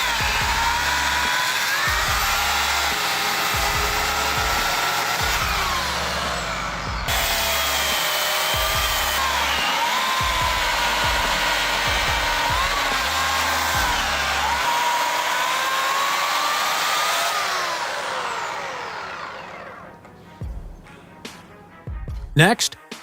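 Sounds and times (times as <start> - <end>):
background music: 0.0 - 17.4, 18.3 - 23.0
electric chainsaw whining: 0.0 - 20.8.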